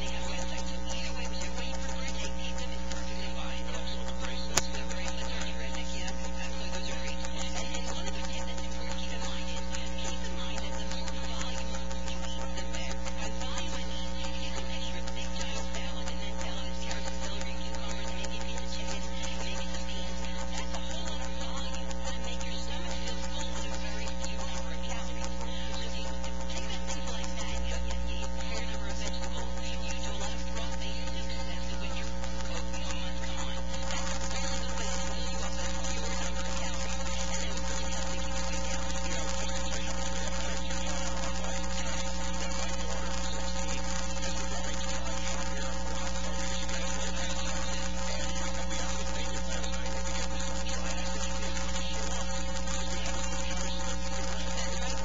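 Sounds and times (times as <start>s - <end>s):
buzzy electrical mains hum: 0.0s - 55.0s.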